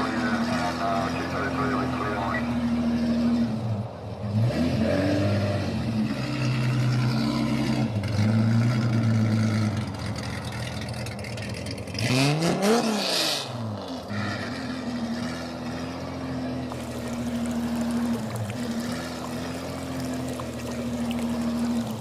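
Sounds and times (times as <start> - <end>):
vehicle engine running: 0.0 - 4.4, 6.2 - 12.1, 13.6 - 22.0.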